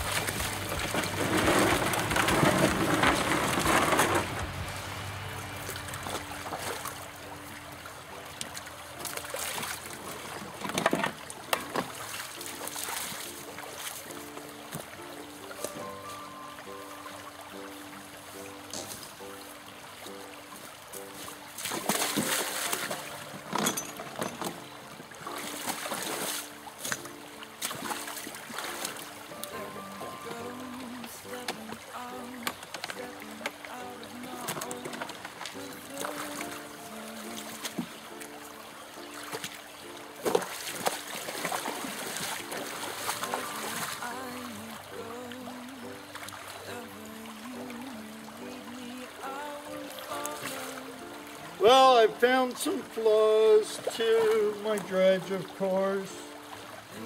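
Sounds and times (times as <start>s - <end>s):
water splashing and pouring: 0.0s - 57.0s
background music with repeating notes: 4.6s - 57.0s.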